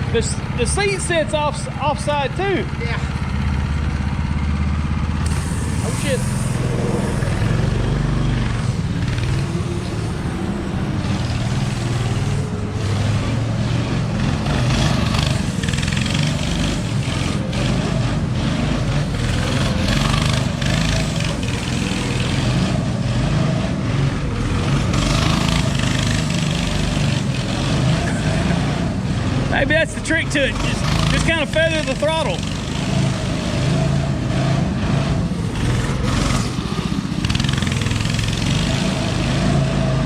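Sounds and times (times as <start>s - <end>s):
go-kart engine running: 0.0s - 40.0s.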